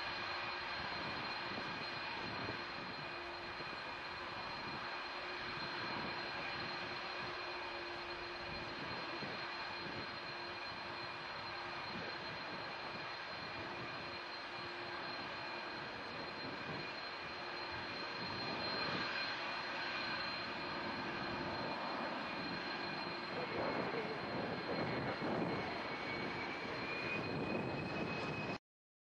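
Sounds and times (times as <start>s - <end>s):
jet engine roar with whining: 0.0s - 28.6s.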